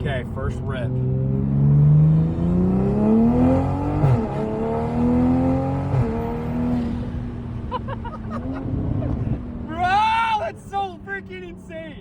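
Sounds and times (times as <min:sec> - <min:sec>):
car accelerating hard: 0:00.7 - 0:10.4.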